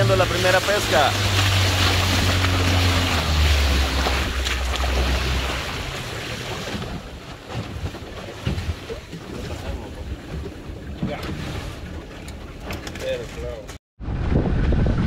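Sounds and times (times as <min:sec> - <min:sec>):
boat engine: 0:00.0 - 0:13.8
water lapping: 0:00.0 - 0:13.8
wind and water rushing: 0:00.0 - 0:15.0.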